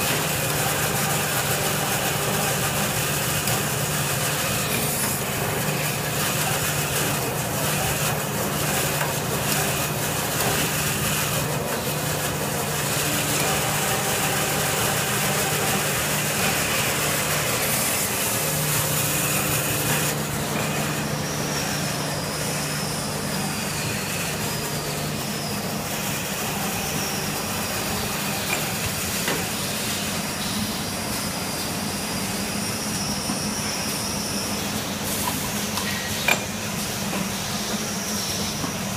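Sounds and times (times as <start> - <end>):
machine humming: 0.0 - 38.9.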